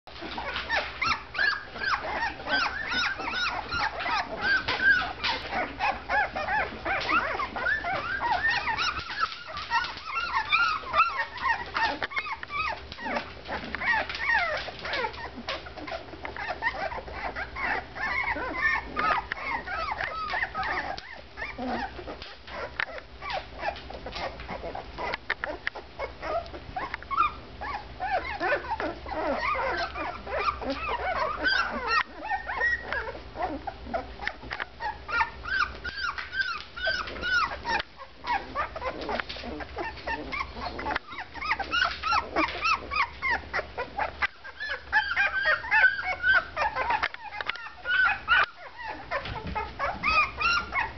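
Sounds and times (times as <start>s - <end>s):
puppies whimpering and squeaking: 0.1s - 50.9s.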